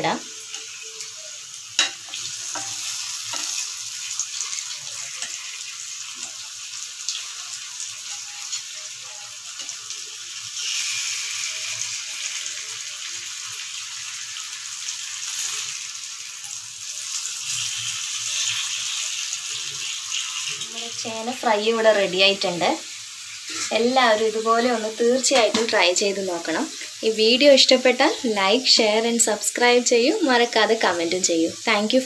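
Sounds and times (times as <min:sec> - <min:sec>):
slices sizzling in oil: 0:00.0 - 0:32.0.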